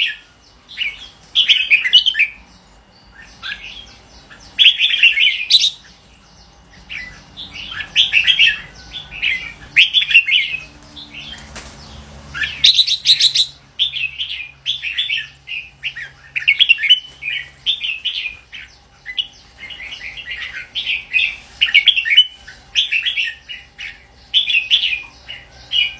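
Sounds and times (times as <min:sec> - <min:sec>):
bird singing warbled phrases: 0:00.0 - 0:25.9.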